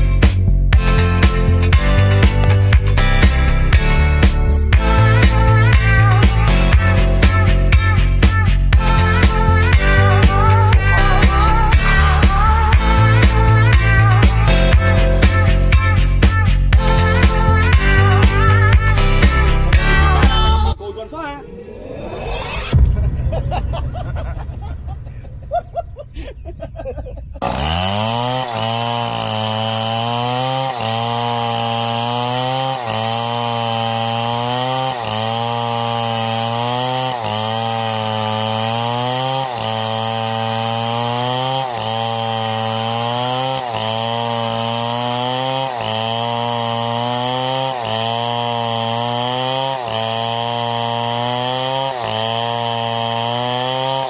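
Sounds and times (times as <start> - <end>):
chainsaw cutting wood: 0.0 - 20.8, 27.4 - 54.0.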